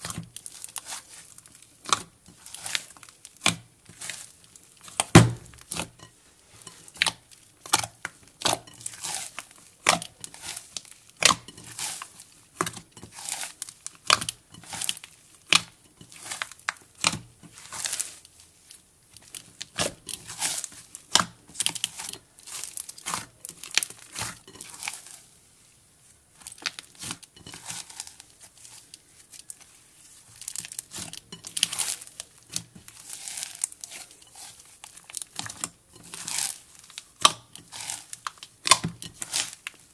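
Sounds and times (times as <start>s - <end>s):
slime crackling and popping: 0.0s - 25.2s, 26.3s - 39.9s.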